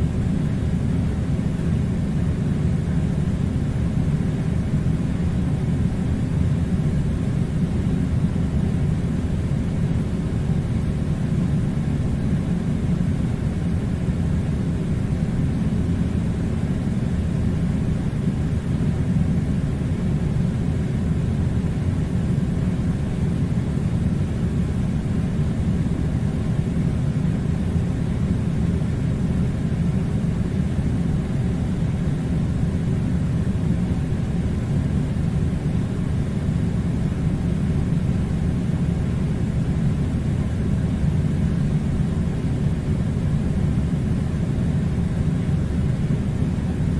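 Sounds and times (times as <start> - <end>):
air conditioning running: 0.0 - 46.9.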